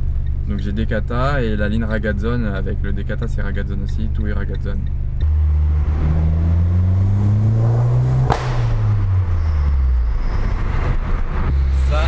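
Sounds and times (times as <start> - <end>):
exhaust crack: 0.0 - 11.9
car engine accelerating: 0.0 - 12.0.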